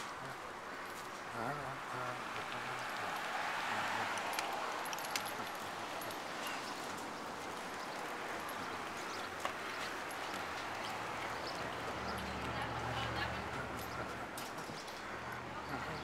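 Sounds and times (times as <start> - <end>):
bicycle rolling on pavement: 0.0 - 16.0.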